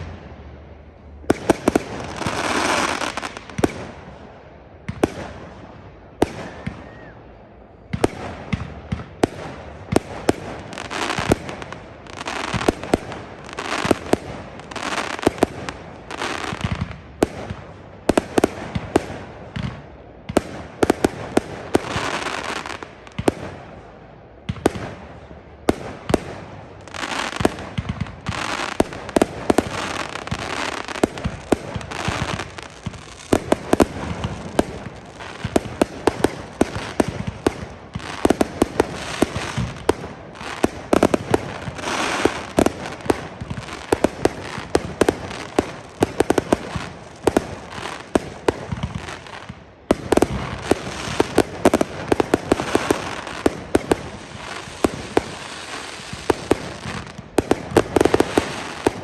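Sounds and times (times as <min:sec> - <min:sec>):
fireworks crackling fizz: 0:00.0 - 0:00.5, 0:01.2 - 0:04.1, 0:08.0 - 0:23.6, 0:25.7 - 0:59.0
fireworks bangs and cracks: 0:00.0 - 0:07.1, 0:07.8 - 0:59.0.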